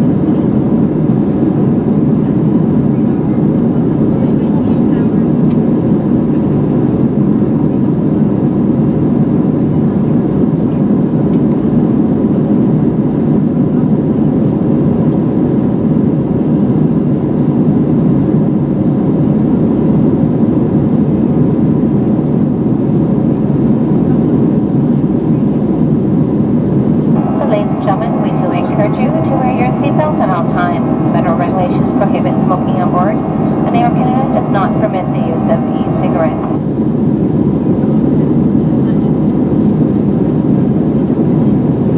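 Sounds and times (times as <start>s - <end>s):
airplane cabin air rush and engine hum: 0.0s - 41.9s.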